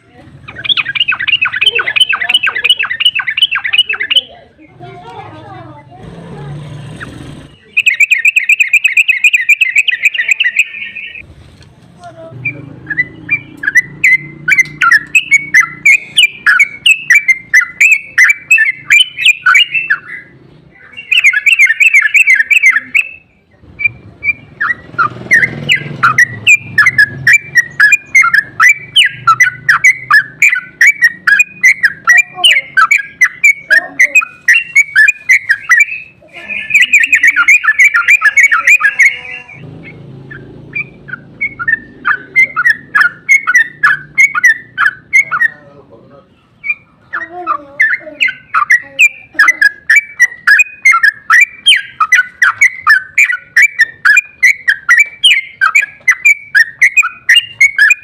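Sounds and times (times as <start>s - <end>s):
bird rapid chattering song: 0.0s - 11.3s, 12.2s - 58.0s.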